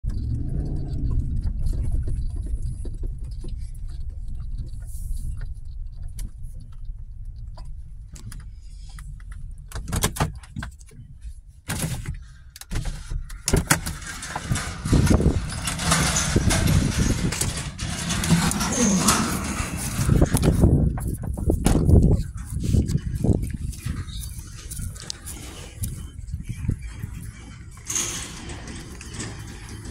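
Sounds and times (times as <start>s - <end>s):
sharp clicks and knocks: 0.0s - 11.1s, 11.7s - 29.9s
truck engine rumble: 0.0s - 29.9s.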